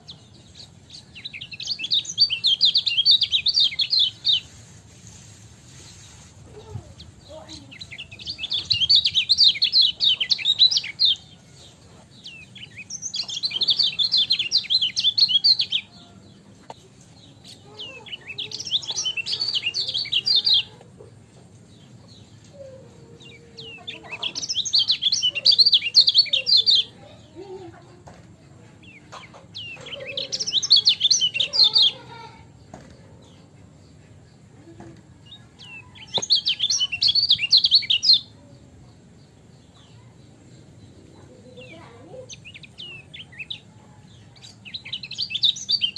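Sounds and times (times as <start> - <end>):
bird chirping high phrases: 0.0 - 5.2, 5.8 - 45.9.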